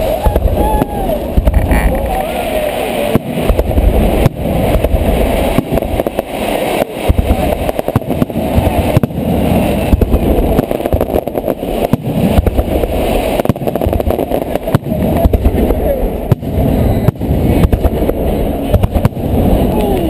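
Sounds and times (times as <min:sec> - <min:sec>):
fireworks bursting: 0:00.0 - 0:20.0
low rumble: 0:00.0 - 0:20.0.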